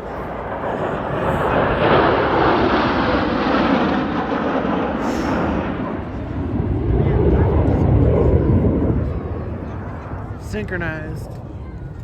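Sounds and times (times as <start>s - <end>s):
fighter jets flying past: 0.0s - 12.0s.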